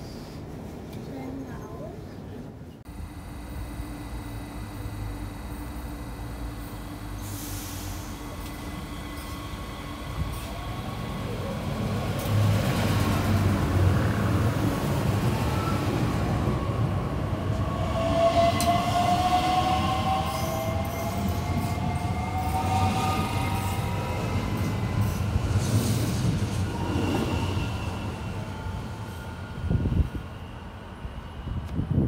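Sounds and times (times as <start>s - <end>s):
train wheels rumbling: 4.7s - 32.0s.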